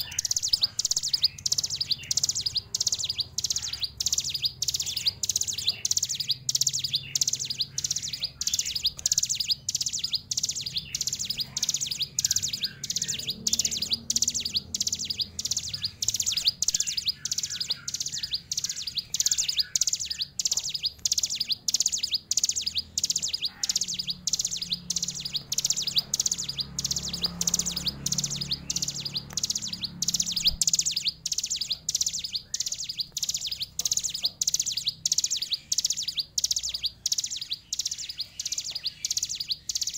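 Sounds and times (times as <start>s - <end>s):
bird singing high repeated chirps: 0.0s - 39.9s.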